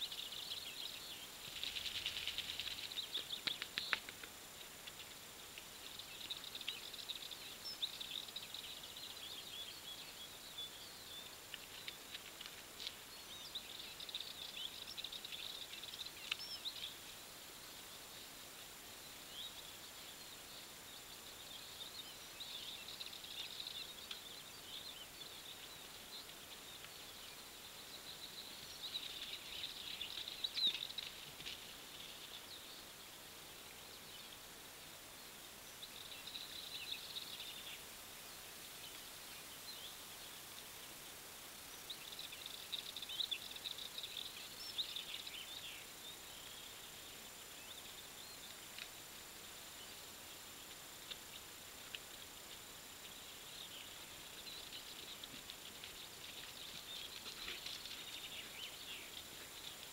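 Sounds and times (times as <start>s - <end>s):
songbirds twittering: 0.0s - 59.9s.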